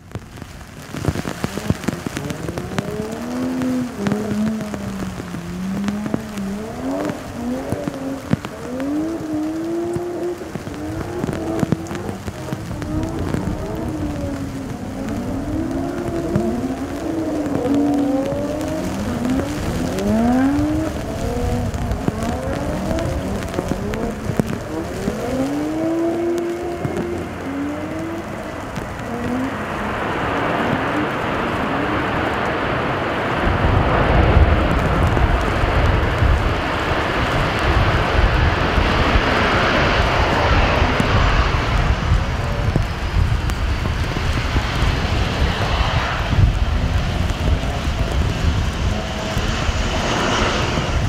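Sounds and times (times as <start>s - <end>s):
jet engines rumbling and whining: 0.0s - 51.0s
rain ticking: 0.0s - 51.0s.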